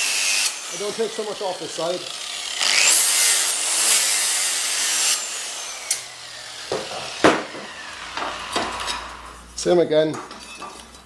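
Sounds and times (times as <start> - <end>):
grinder grinding metal: 0.0 - 11.0.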